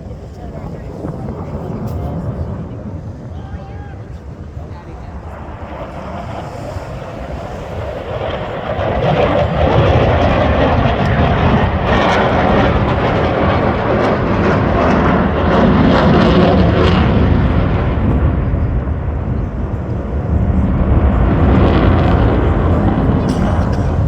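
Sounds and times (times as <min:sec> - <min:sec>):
plane engine roar flying by: 0:00.0 - 0:24.0.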